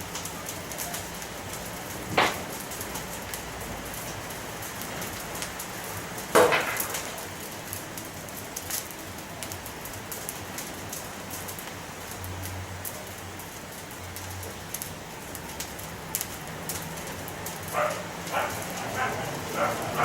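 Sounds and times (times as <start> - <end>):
bonfire crackling and popping: 0.0 - 20.0.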